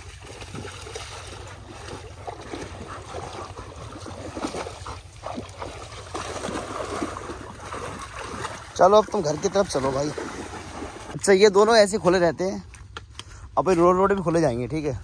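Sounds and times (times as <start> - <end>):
dogs splashing through water: 0.0 - 13.0.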